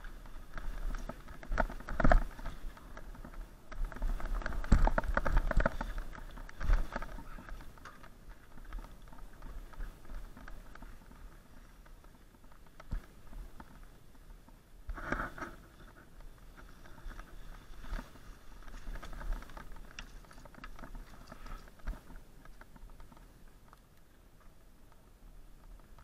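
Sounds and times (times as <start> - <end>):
mountain bike rattling over trail: 0.0 - 26.0.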